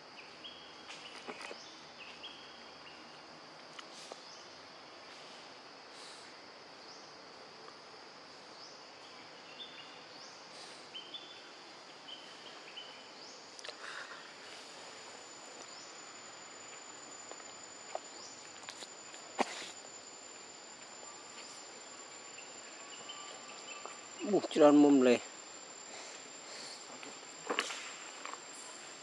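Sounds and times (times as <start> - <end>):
high-pitched insect drone: 0.0 - 29.0
insect chirps: 0.0 - 29.0.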